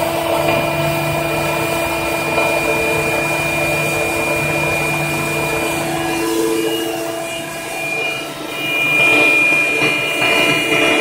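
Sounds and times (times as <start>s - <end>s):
air compressor running: 0.0s - 11.0s
high whine: 0.0s - 11.0s.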